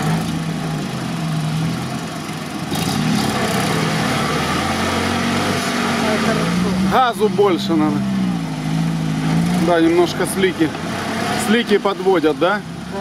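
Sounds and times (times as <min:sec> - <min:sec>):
engine working under load: 0:00.0 - 0:13.0.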